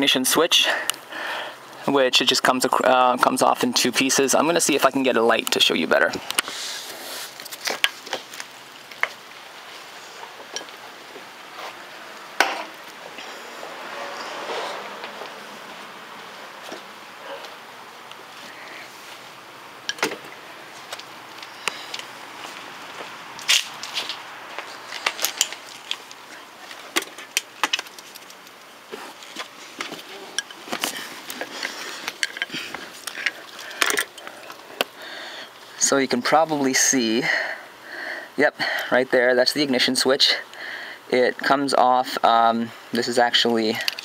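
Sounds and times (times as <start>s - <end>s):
faint steady hiss: 0.0s - 44.0s
low room noise: 0.0s - 44.0s.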